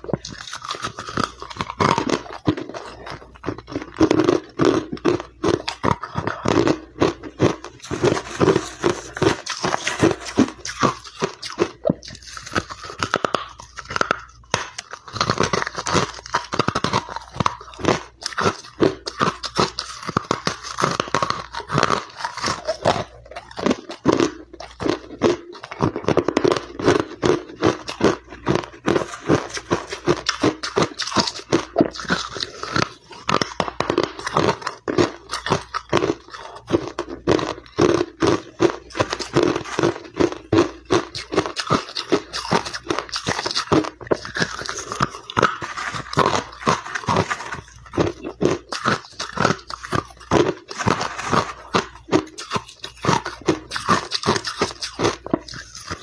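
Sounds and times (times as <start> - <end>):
ice crunching between teeth: 0.0 - 56.0.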